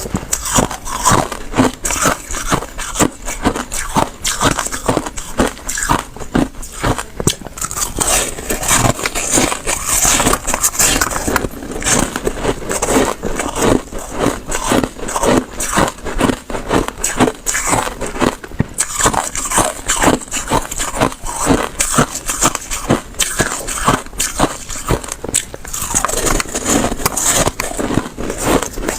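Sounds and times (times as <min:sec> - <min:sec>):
slushy ice being chewed: 0:00.0 - 0:28.9.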